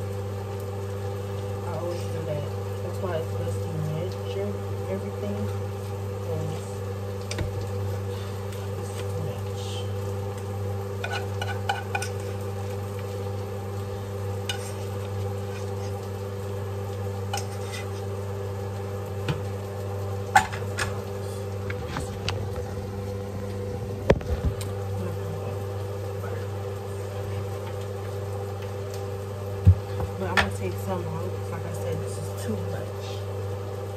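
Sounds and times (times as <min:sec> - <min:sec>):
food sizzling in a pan: 0:00.0 - 0:33.9
steady low hum: 0:00.0 - 0:33.9.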